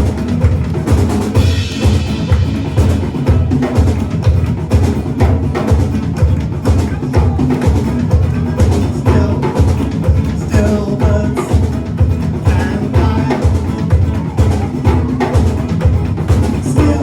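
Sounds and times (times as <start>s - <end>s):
drum kit beat: 0.0s - 17.0s
live band playing: 0.0s - 17.0s.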